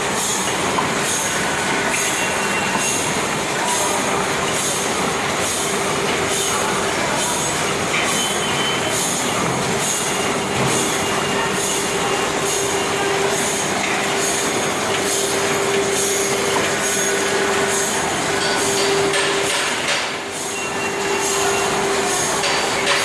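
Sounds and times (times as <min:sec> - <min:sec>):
filling machine clatter: 0:00.0 - 0:23.0.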